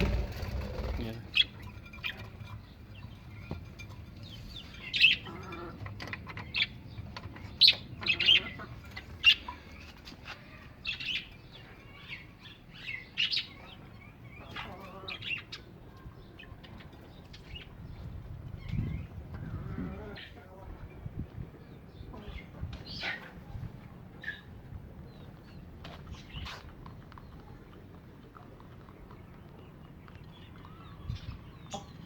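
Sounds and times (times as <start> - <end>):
caged birds chirping: 0.0 - 32.0.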